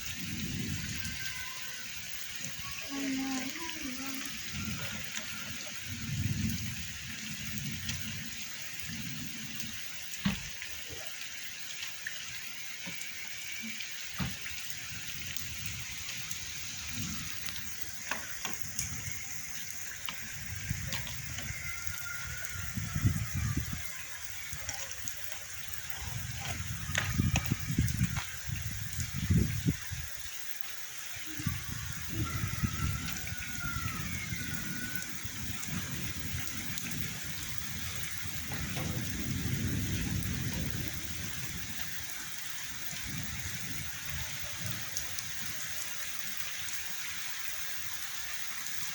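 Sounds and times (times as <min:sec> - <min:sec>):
rain falling: 0:00.0 - 0:48.9
rain drop taps: 0:00.5 - 0:46.8.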